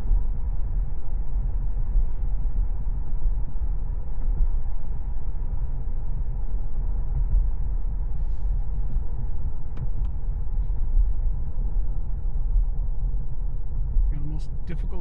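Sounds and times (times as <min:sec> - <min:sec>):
road and tyre rumble in car: 0:00.0 - 0:15.0.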